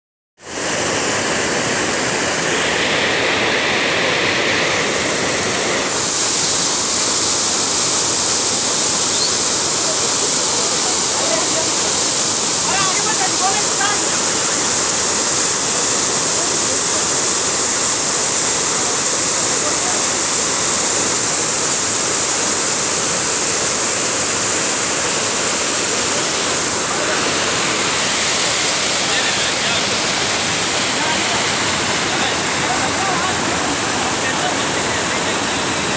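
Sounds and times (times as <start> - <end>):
waterfall rushing: 0.4 - 35.9.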